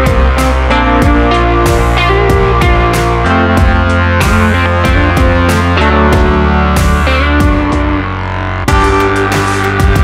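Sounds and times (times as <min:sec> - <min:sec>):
guitar music with bass and beat: 0:00.0 - 0:10.0.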